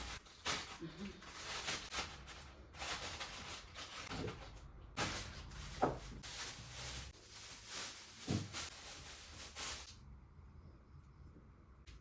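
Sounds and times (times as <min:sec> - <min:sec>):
rustling: 0:00.0 - 0:09.9.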